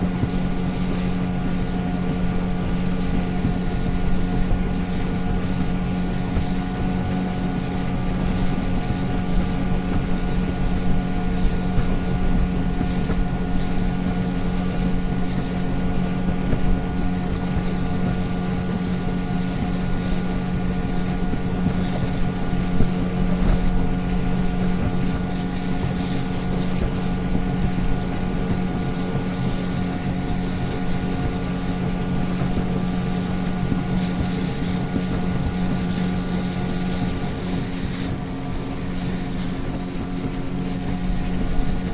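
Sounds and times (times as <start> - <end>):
motorboat engine humming: 0.0 - 41.9
rushing water and wind: 0.0 - 41.9.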